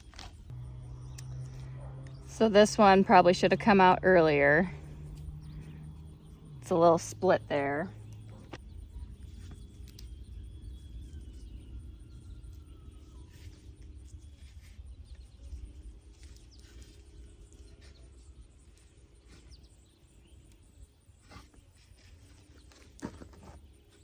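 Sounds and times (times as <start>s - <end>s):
wind rumble on microphone: 0.0s - 22.6s.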